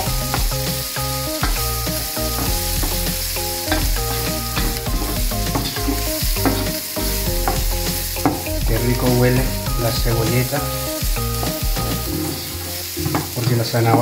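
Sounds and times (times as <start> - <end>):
background music: 0.0 - 14.0
vegetables sizzling in wok: 0.0 - 14.0.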